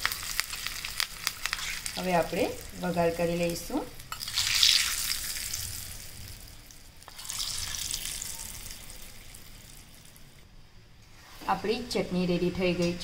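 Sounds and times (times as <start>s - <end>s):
hot oil sizzling: 0.0s - 10.4s.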